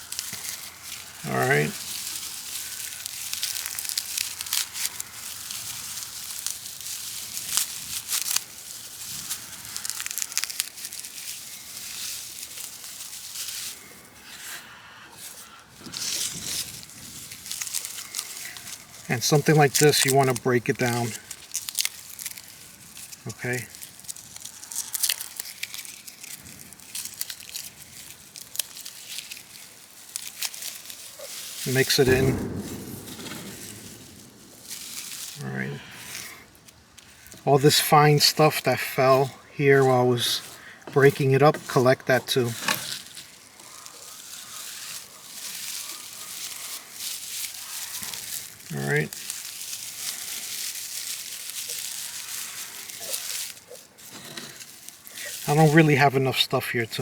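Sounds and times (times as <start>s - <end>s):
dry grass crackling and rustling: 0.0s - 57.0s
stalks snapping and tearing: 0.0s - 57.0s.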